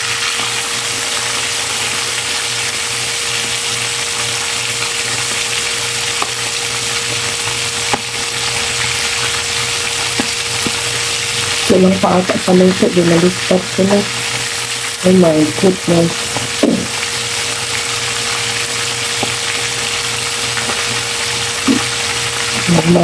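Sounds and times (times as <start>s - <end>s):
fish sizzling in hot oil: 0.0s - 23.0s.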